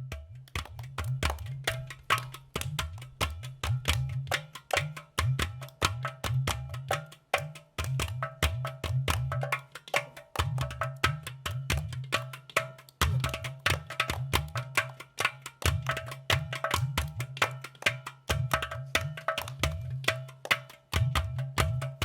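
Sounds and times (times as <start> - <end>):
clay pot drums playing: 0.0 - 22.0.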